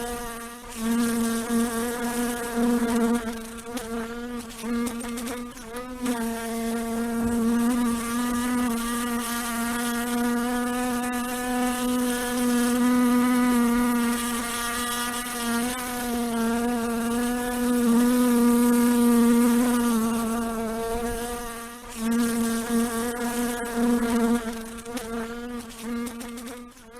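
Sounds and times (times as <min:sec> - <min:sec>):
fly buzzing: 0:00.0 - 0:26.9.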